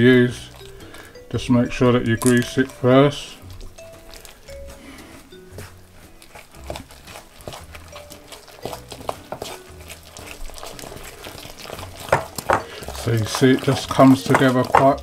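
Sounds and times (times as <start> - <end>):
quiet background jazz music: 0.0 - 15.0
spoon stirring batter in glass bowl: 0.0 - 15.0.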